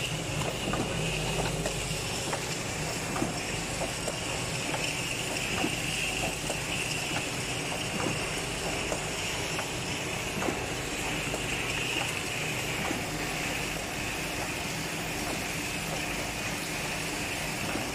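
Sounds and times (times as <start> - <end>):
machine running: 0.0 - 17.9
light mechanical clicks: 0.4 - 16.2, 17.6 - 17.9.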